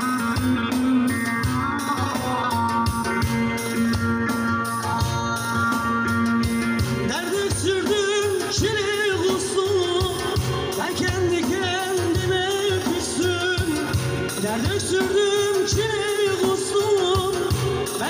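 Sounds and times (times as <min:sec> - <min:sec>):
folk song played by band: 0:00.0 - 0:18.0.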